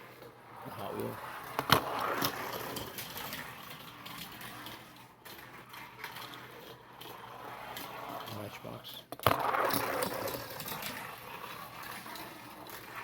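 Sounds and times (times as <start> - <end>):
toy truck rattling on plastic track: 0.0 - 13.0.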